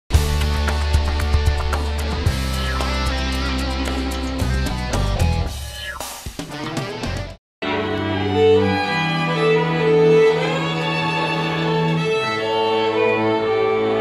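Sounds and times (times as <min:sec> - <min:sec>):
string band playing slow chords: 0:00.1 - 0:05.5, 0:06.6 - 0:14.0.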